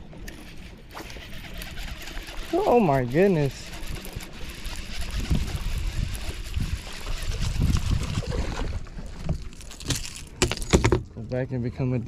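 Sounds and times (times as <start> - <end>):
water lapping and splashing: 0.0 - 10.5.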